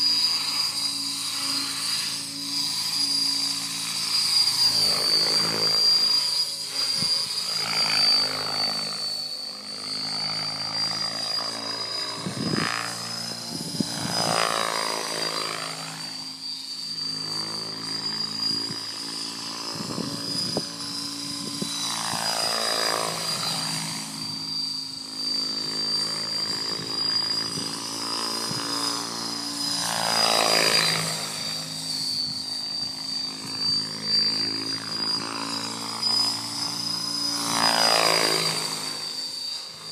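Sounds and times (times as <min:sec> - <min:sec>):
helicopter rotor blades chopping: 0:00.0 - 0:39.9
high electric motor whine: 0:00.0 - 0:39.9.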